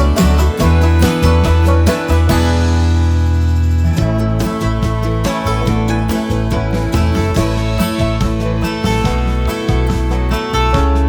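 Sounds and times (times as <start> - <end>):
plucked guitar: 0.0 - 11.0
strong bass line: 0.0 - 11.0
upbeat country music: 0.0 - 11.0.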